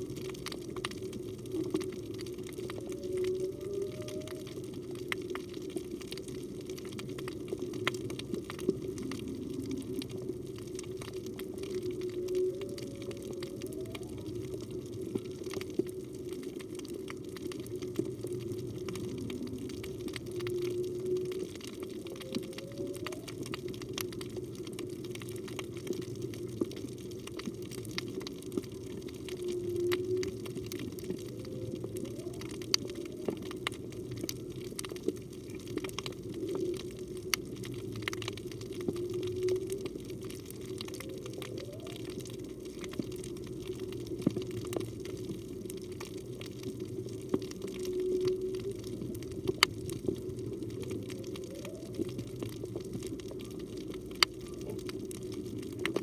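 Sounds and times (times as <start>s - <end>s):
underwater wash: 0.0s - 56.0s
whale song: 0.0s - 56.0s.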